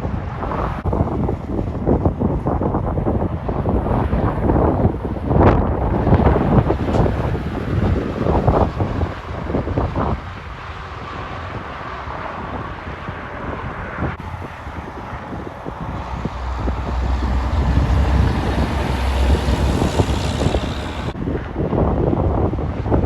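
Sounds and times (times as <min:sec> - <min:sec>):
heavy truck engine rumble: 0:00.0 - 0:21.6
wind buffeting microphone: 0:00.0 - 0:23.0.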